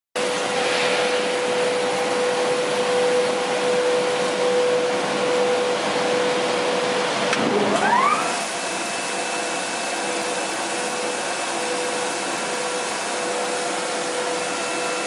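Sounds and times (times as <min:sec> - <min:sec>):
constant machine whine: 0:00.2 - 0:15.0
machine noise: 0:00.2 - 0:15.0.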